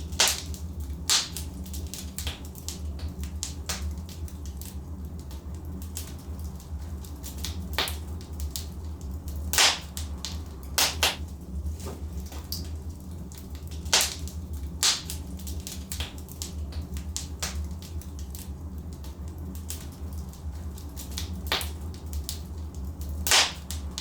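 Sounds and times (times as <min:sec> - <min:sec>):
logs crackling in fireplace: 0:00.0 - 0:24.0.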